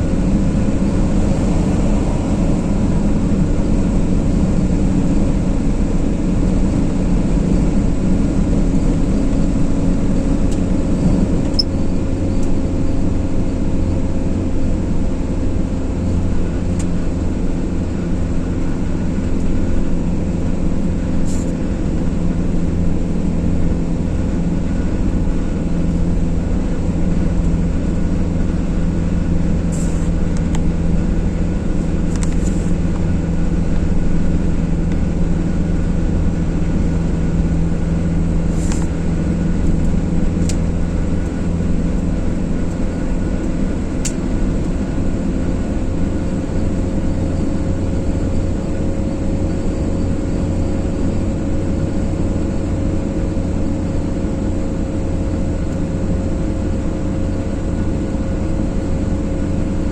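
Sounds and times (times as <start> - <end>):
car engine hum: 0.0 - 59.9
road and tyre rumble: 0.0 - 59.9.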